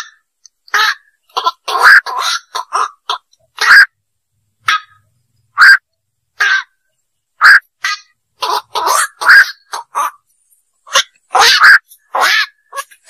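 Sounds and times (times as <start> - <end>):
heron croaking calls: 0.0 - 4.0, 4.6 - 5.8, 6.4 - 6.8, 7.4 - 10.2, 10.9 - 13.0.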